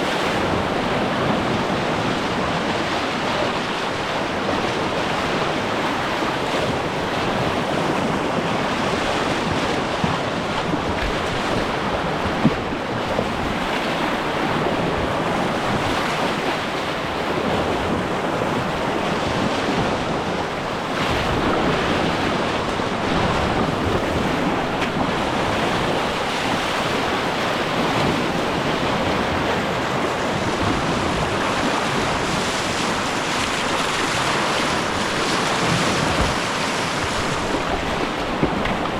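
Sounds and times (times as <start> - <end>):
river water rushing: 0.0 - 38.9
wind on microphone: 0.0 - 38.9.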